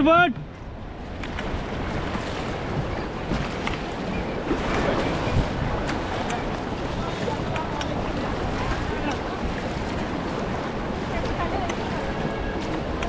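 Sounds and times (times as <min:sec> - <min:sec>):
paddles splashing in water: 0:00.0 - 0:13.0
river water rushing: 0:00.0 - 0:13.0.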